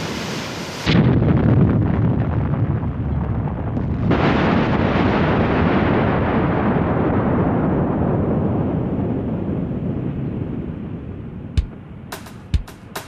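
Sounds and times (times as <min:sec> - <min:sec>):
deep underwater explosion rumble: 0:00.9 - 0:12.0.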